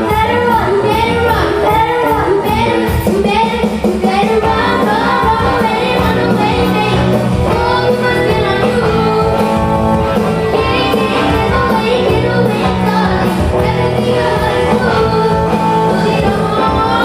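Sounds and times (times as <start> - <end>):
live band playing pop-rock: 0.0 - 17.0
person singing: 0.0 - 17.0.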